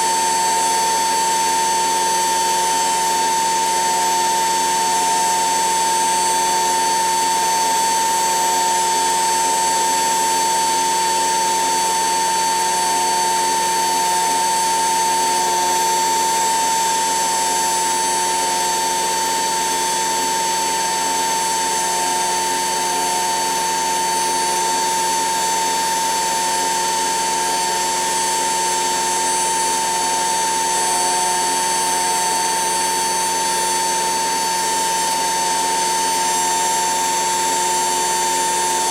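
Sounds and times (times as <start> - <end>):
electric motor high whine: 0.0 - 38.9.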